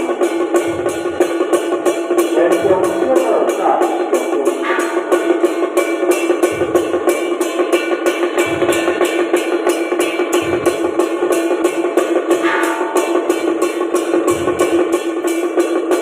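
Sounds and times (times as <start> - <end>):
sustained pitched tone: 0.0 - 15.2
cymbals struck: 0.0 - 16.0
deep drum hits: 0.2 - 15.4.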